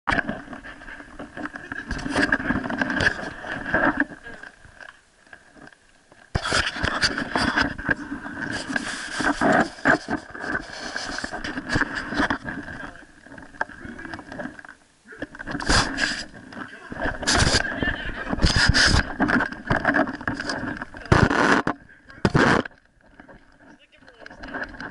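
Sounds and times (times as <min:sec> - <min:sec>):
camera rubbing and scraping: 0:00.1 - 0:05.0, 0:06.3 - 0:24.9.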